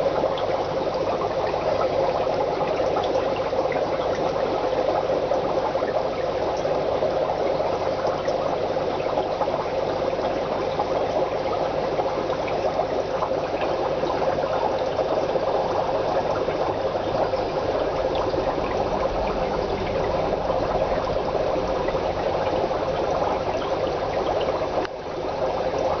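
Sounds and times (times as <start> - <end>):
aquarium water bubbling and splashing: 0.0 - 26.0.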